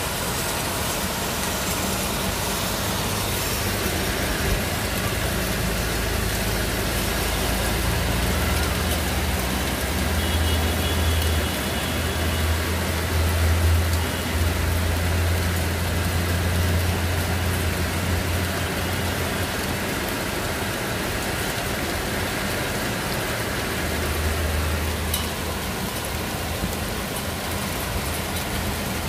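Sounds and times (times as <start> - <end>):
heavy rain and hail: 0.0 - 29.0.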